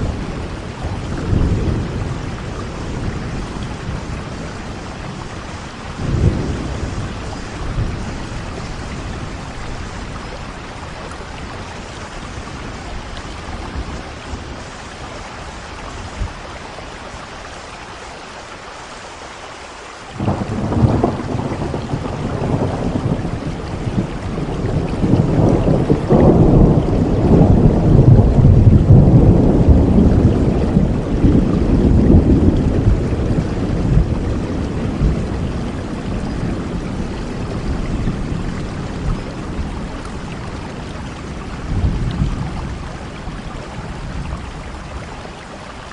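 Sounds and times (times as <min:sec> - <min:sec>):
thunder rumbling and cracking: 0:00.0 - 0:16.4, 0:20.2 - 0:45.9
heavy rain falling: 0:00.0 - 0:45.9.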